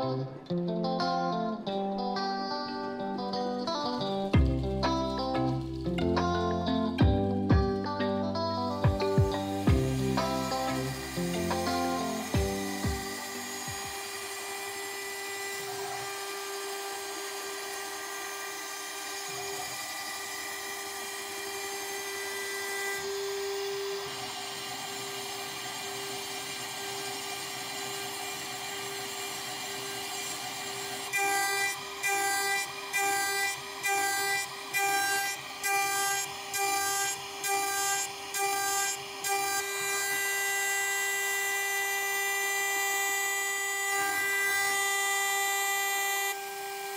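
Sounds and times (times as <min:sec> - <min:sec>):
wood cutting noise: 0:00.0 - 0:46.9
router spindle high whine: 0:03.7 - 0:46.9.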